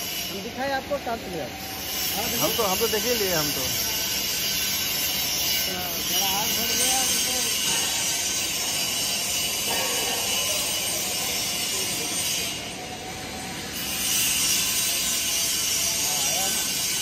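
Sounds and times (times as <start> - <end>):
welding hiss: 0.0 - 17.0
workshop noise: 0.0 - 17.0.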